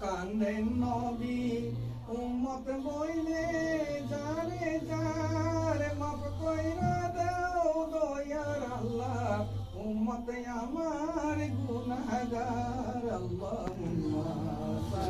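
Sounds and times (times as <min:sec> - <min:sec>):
person singing slow melody: 0:00.0 - 0:15.0.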